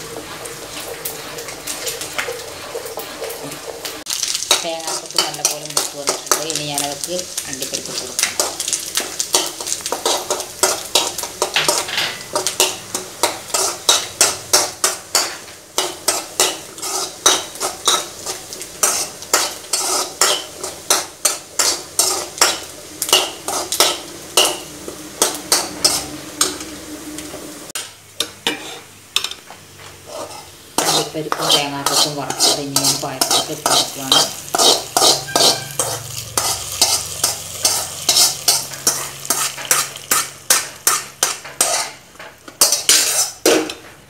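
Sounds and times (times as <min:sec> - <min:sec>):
metal spoon scraping a pan: 0:00.0 - 0:43.8
light frying sizzle: 0:00.0 - 0:44.0.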